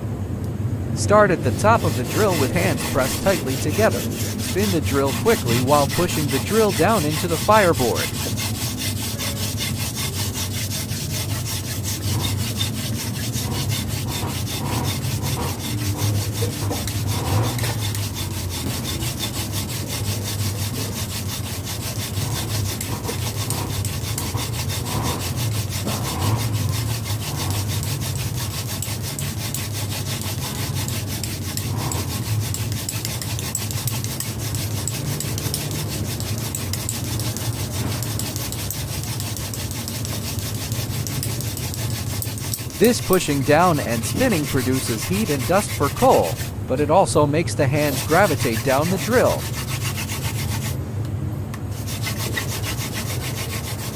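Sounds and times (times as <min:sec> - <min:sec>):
wood rasping on wood: 0:01.1 - 0:46.6, 0:47.7 - 0:50.8, 0:51.7 - 0:53.9.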